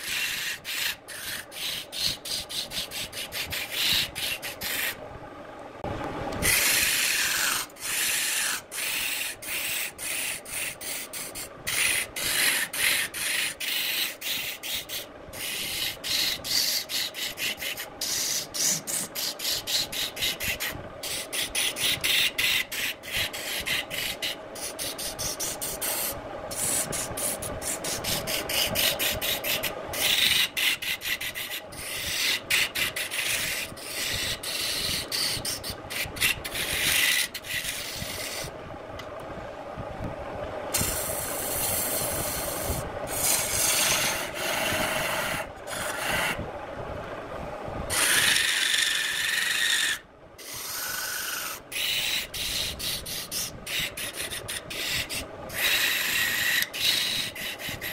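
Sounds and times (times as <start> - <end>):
wood lathe tool scraping: 0.0 - 5.0, 6.4 - 38.5, 40.8 - 46.4, 47.9 - 57.9.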